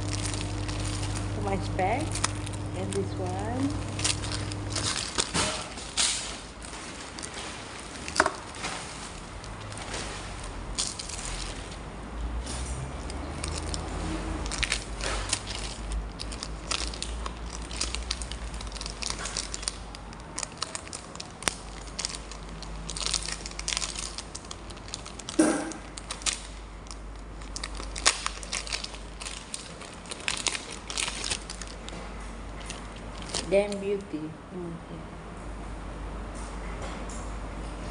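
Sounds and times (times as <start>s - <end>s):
packaging crinkling and rustling: 0.0s - 34.0s.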